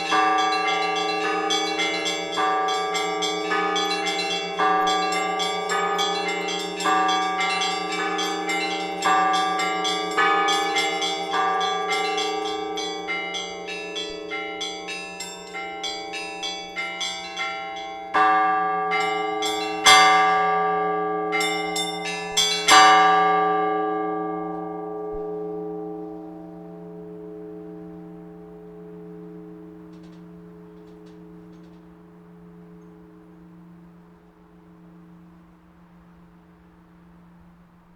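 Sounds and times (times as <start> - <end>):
church bells pealing: 0.0 - 37.9.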